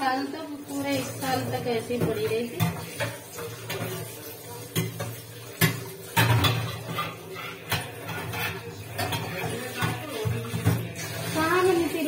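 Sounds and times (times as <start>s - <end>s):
steel utensils clanking in sink: 0.1s - 12.0s.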